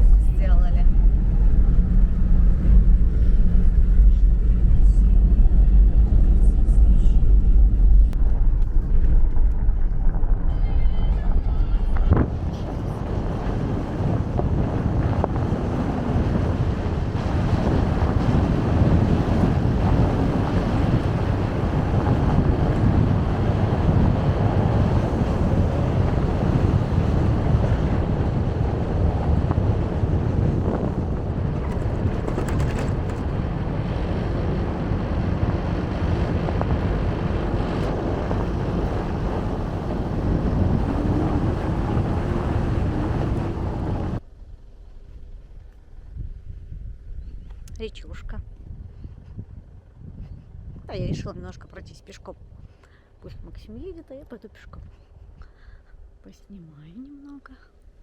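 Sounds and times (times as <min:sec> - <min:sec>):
car driving on unpaved road: 0:00.0 - 0:52.6
wind buffeting microphone: 0:00.0 - 0:57.2.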